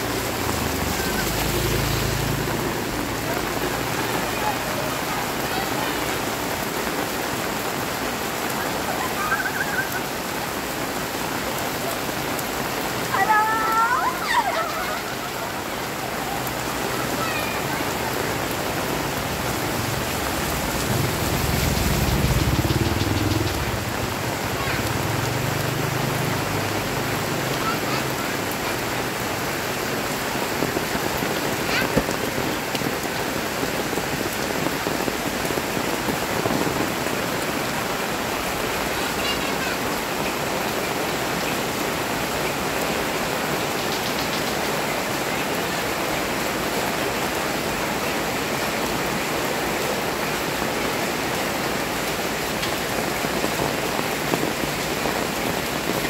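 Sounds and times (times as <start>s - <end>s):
heavy rain on pavement and awnings: 0.0s - 56.0s.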